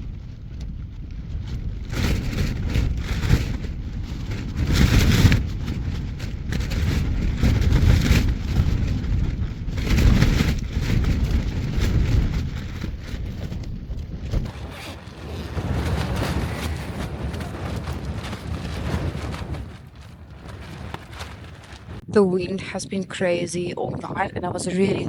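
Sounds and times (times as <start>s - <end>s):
strong wind buffeting tent: 0.0s - 25.0s.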